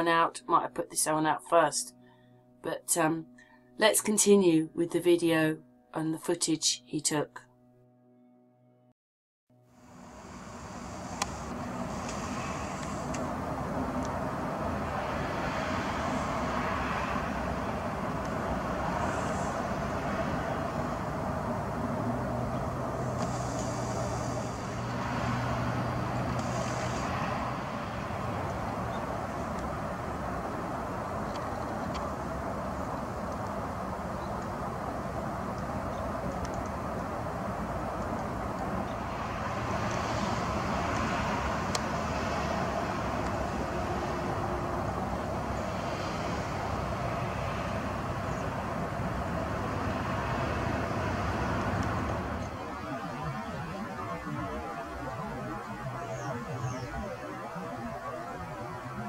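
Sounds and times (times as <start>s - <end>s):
low hum: 9.6s - 59.0s
distant traffic rumble: 9.9s - 59.0s
outdoor rushing noise: 9.9s - 59.0s.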